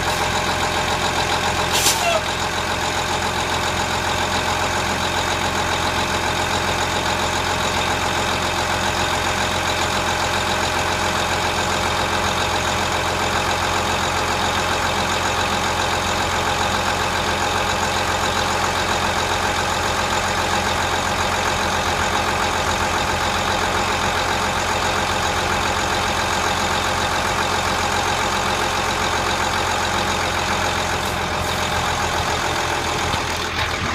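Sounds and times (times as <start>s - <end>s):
diesel bus engine idling: 0.0s - 33.9s.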